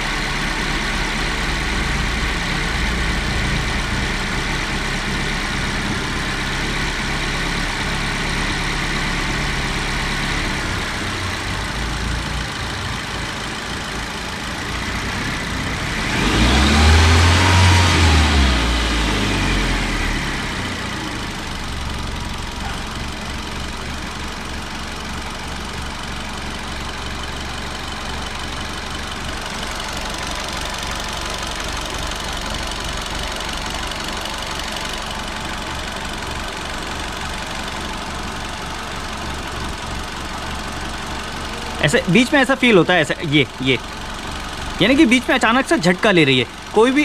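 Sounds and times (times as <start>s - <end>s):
car engine idling with misfire: 0.0s - 47.0s.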